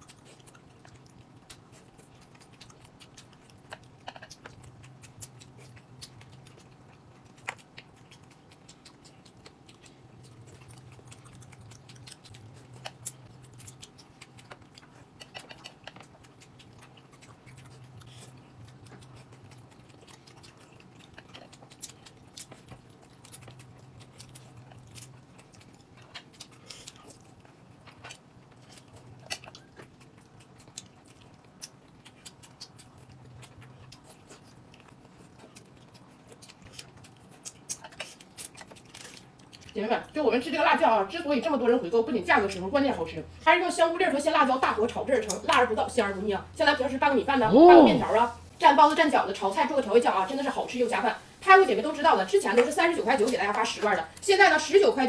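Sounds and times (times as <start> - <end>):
chewing: 0.0 - 55.0.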